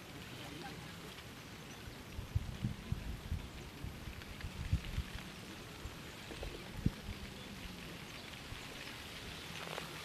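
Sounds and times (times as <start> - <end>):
faint steady hiss: 0.0 - 10.0
wind buffeting microphone: 1.1 - 10.0.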